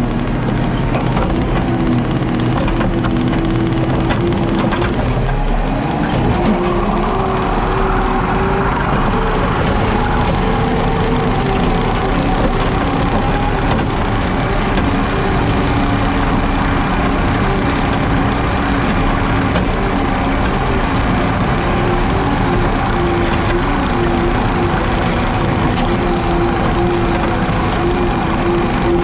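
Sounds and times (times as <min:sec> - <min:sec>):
skid steer engine under load: 0:00.0 - 0:29.0.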